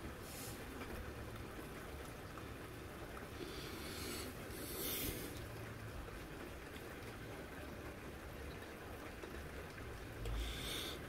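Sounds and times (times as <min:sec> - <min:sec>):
steady rainfall: 0:00.0 - 0:11.0.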